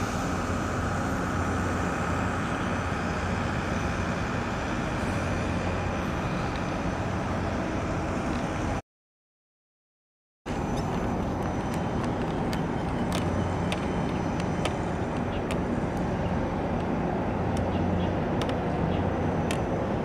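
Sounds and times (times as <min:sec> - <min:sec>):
low rumble of harbour ambience: 0:00.0 - 0:08.8, 0:10.5 - 0:20.0.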